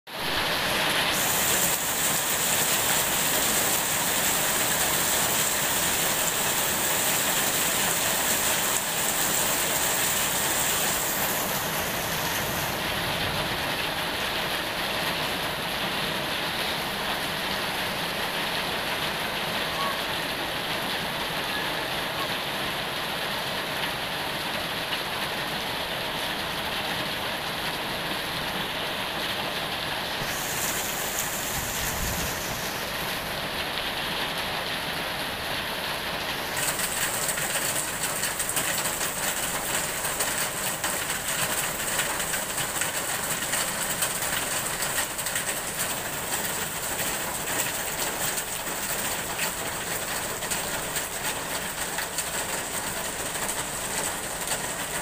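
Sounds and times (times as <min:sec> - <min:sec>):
heavy rain on foliage: 0:00.1 - 0:55.0.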